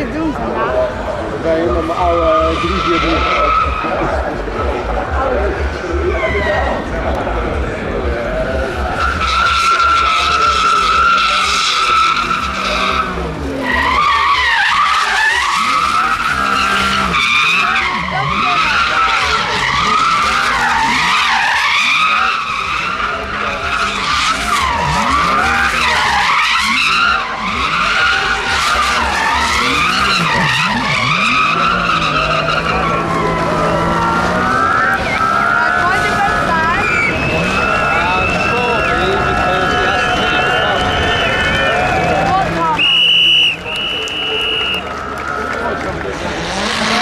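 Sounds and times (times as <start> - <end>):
car engine running: 0.0 - 47.0
car tyres squealing: 0.0 - 47.0.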